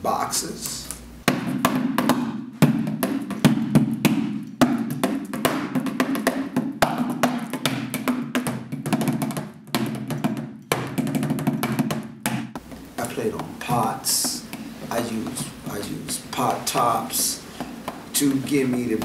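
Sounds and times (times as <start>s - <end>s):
drumsticks on cardboard boxes: 0.6s - 19.0s.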